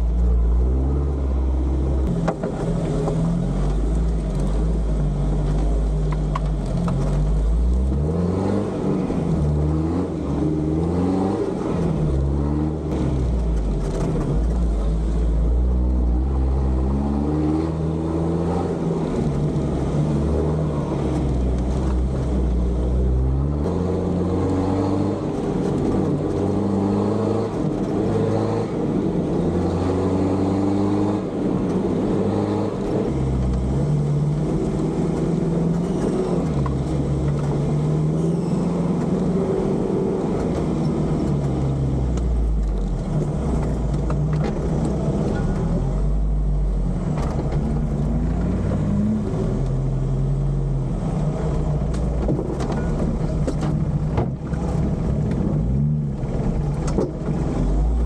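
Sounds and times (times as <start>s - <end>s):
off-road engine revving: 0.0s - 58.0s.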